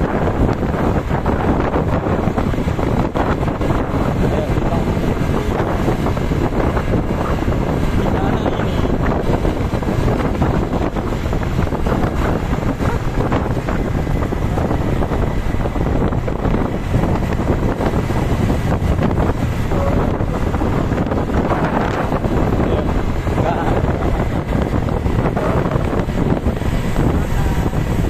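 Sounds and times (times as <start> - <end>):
passing traffic rumble: 0.0 - 28.0
wind buffeting microphone: 0.0 - 28.0.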